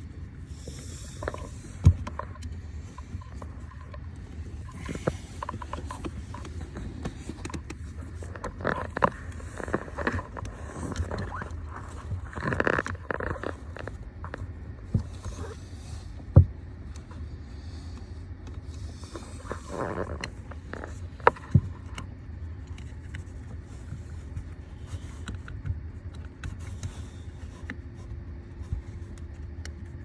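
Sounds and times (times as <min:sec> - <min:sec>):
plastic scraping on plastic: 0:00.4 - 0:17.2, 0:18.6 - 0:30.0
plastic clicks and creaks: 0:00.6 - 0:17.1, 0:17.9 - 0:27.8.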